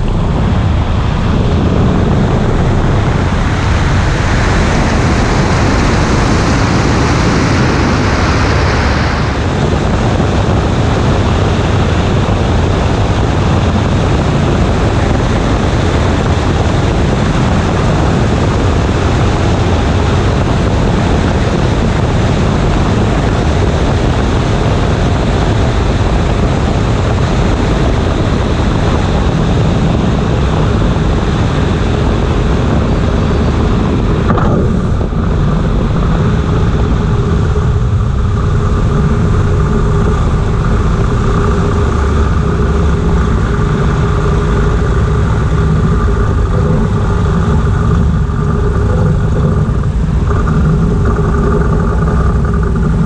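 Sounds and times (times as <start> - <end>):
propeller plane engine: 0.0 - 53.0
wind rush over wing: 0.0 - 53.0.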